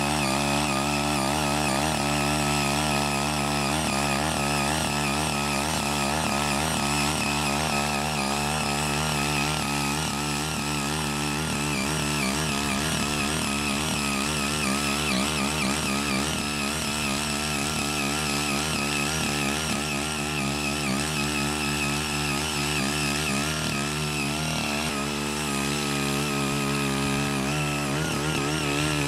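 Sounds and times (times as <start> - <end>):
small engine running under load: 0.0 - 29.0
tines churning through soil: 0.0 - 29.0.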